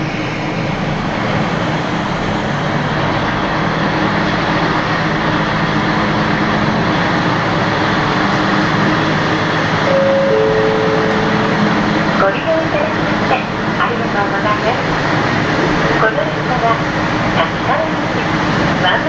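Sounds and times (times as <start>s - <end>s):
rushing air: 0.0s - 18.8s
low engine drone: 0.0s - 19.0s
train wheels rumbling on track: 0.0s - 19.0s.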